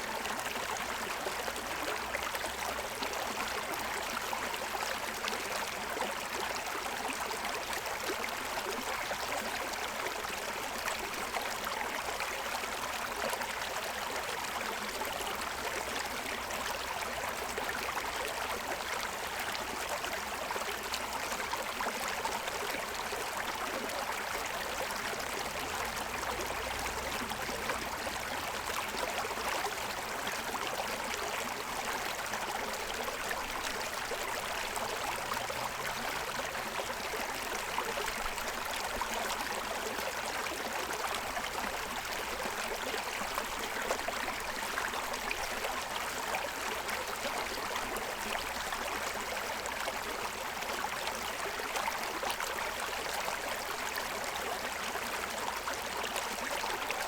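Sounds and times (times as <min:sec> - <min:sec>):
stream babbling over stones: 0:00.1 - 0:57.0.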